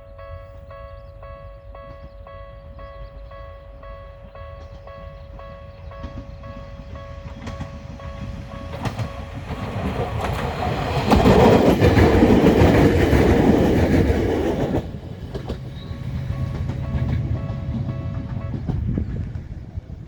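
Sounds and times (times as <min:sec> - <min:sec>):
level-crossing warning bell: 0:00.0 - 0:13.3, 0:14.9 - 0:20.0
electric train passing: 0:00.0 - 0:20.0
wheels clacking over rail joints: 0:03.8 - 0:20.0.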